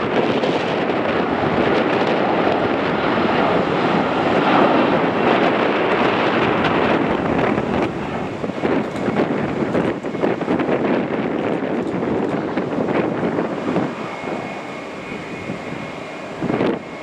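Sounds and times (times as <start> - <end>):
jet airliner engines: 0.0 - 17.0
wind buffeting microphone: 0.0 - 17.0.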